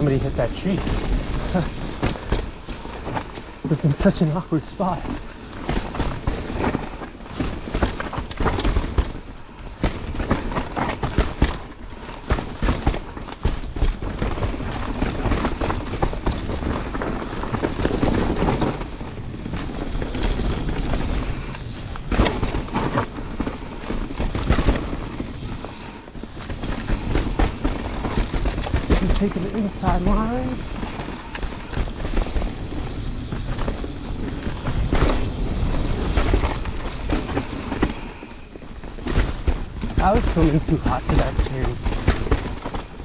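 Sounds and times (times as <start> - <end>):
bike knocking and rattling: 0.0 - 43.0
bike tyres rolling on dirt: 0.0 - 43.0.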